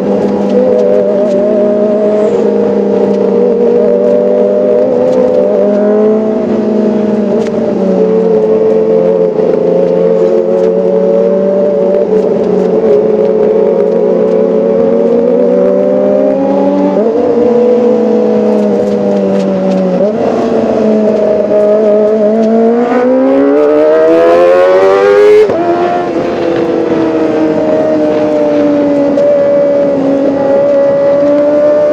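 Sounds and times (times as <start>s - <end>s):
motorcycle engine revving high: 0.0s - 31.9s.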